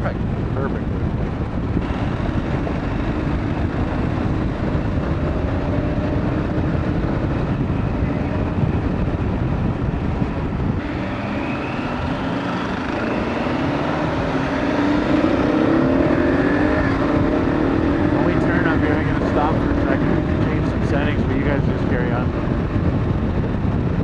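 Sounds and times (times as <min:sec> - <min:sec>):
motorcycle engine running: 0:00.0 - 0:24.0
road rumble: 0:00.0 - 0:24.0
wind on microphone: 0:00.0 - 0:24.0.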